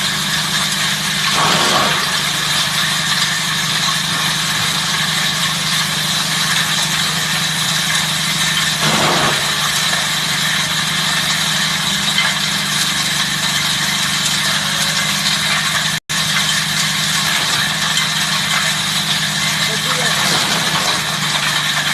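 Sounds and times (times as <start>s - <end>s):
wood chipper humming and whining: 0.0s - 21.9s.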